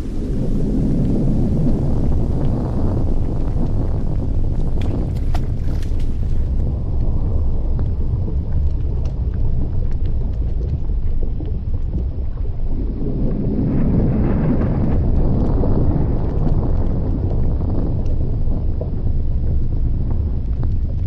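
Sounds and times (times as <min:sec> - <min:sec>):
faint crackles: 0:00.0 - 0:21.0
volcanic eruption rumbling: 0:00.0 - 0:21.0.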